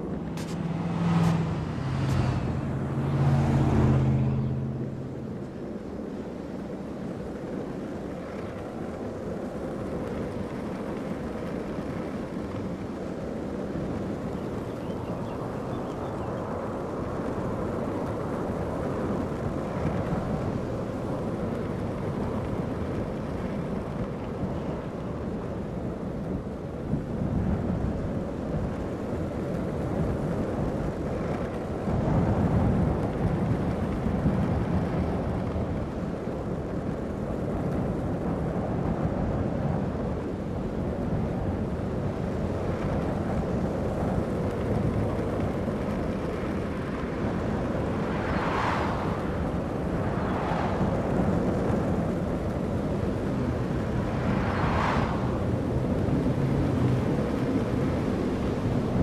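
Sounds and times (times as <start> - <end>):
longboard wheels rolling on asphalt: 0.0 - 59.0.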